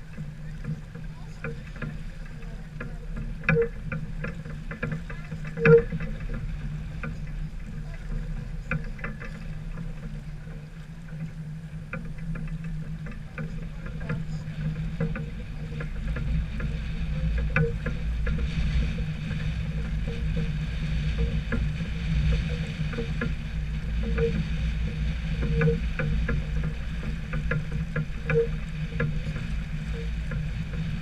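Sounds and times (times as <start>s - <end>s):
light clicks and knocks: 0.0s - 31.0s
steady low hum: 0.0s - 31.0s
water noise: 0.0s - 31.0s
wind: 0.0s - 31.0s.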